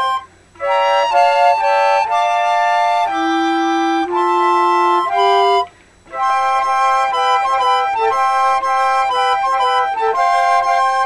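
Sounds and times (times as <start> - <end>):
flute quartet holding chords: 0.0 - 11.0.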